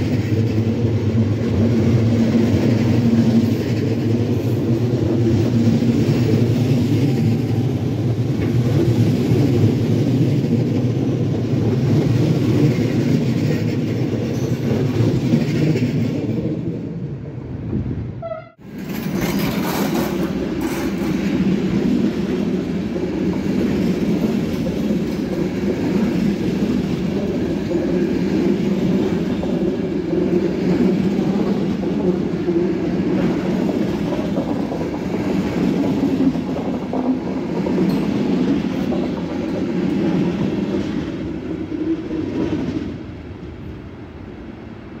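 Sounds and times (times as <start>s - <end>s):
train wheels on rails: 0.0s - 45.0s.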